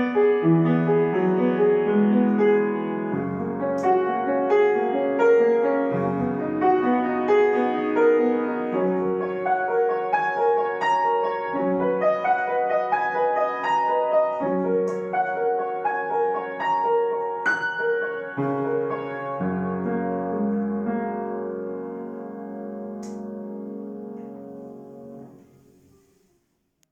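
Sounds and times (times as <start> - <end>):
solo piano: 0.0 - 26.9.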